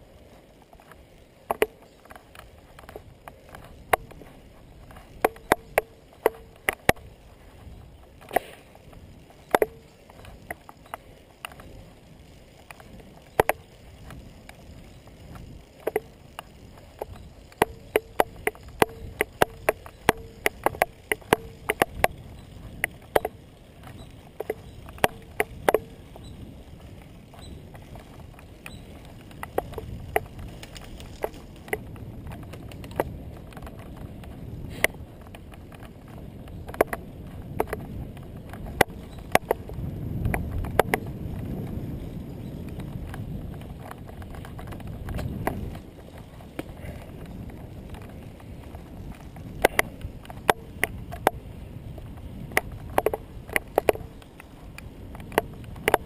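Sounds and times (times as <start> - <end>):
bicycle clicks and knocks: 0.0 - 56.0
tyre noise: 0.0 - 56.0
wind noise: 0.0 - 56.0.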